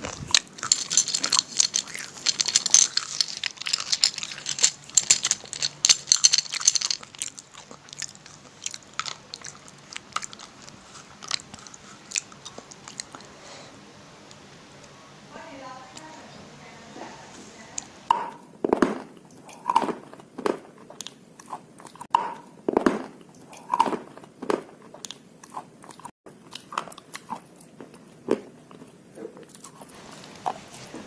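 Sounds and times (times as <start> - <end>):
crunchy chewing: 0.0 - 13.6, 19.0 - 22.1, 22.7 - 31.0.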